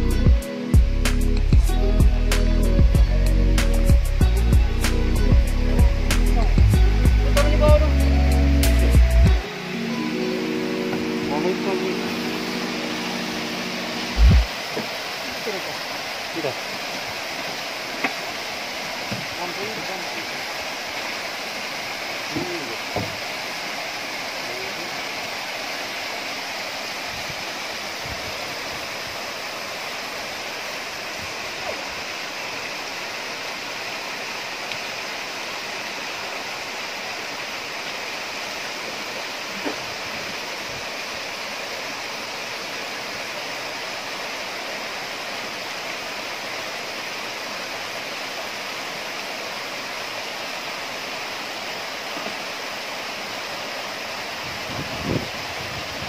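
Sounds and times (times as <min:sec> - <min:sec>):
stream splashing over stones: 0:09.3 - 0:56.0.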